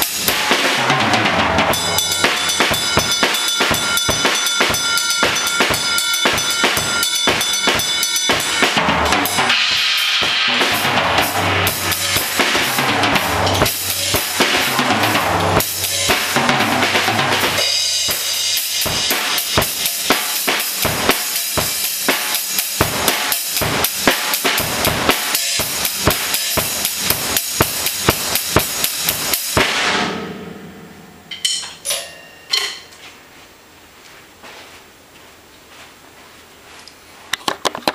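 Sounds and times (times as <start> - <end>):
drum kit funk groove: 0.0 - 31.9
cymbals ringing: 1.6 - 33.0.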